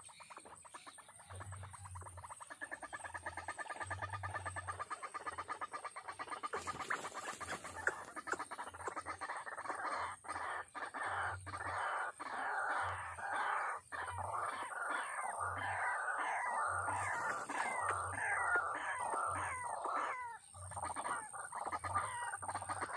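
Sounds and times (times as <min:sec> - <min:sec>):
waterhen croaking calls: 0:00.0 - 0:22.9.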